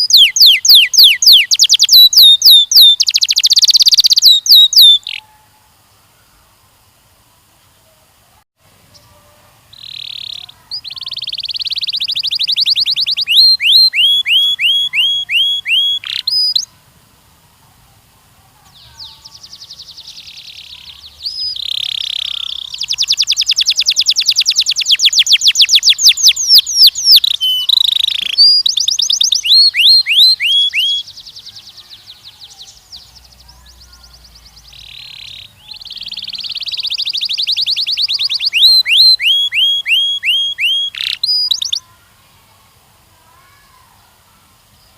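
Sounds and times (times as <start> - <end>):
canary singing trills: 0.0 - 5.7, 8.9 - 16.8, 18.7 - 42.0.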